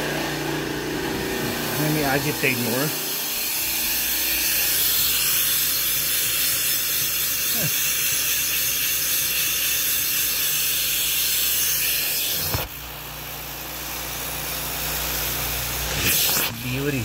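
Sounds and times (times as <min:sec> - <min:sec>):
carpet cleaning machine hissing: 0:00.0 - 0:17.0.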